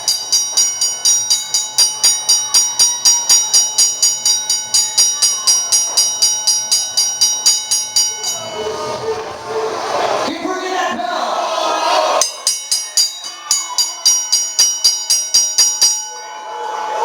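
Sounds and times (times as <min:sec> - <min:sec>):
ring bell struck rapidly: 0:00.0 - 0:09.0, 0:12.2 - 0:17.0.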